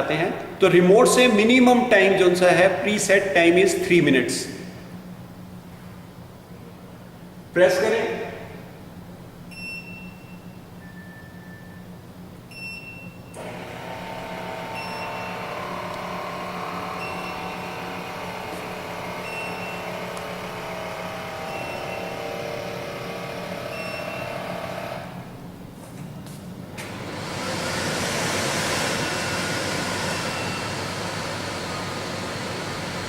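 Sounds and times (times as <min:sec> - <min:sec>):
kitchen chimney fan whirring: 0:00.0 - 0:09.6, 0:13.3 - 0:33.0.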